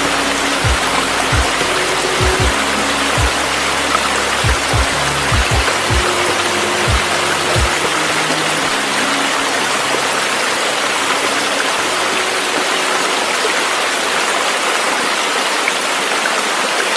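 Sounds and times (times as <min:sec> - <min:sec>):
faint music: 0:00.0 - 0:15.6
rushing water hiss: 0:00.0 - 0:16.9.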